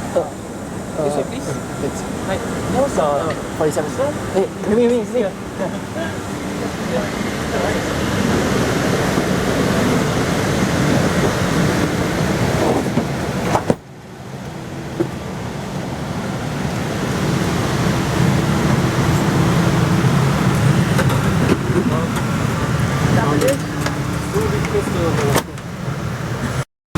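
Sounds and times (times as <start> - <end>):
ventilation hum and rushing air: 0.0 - 26.6.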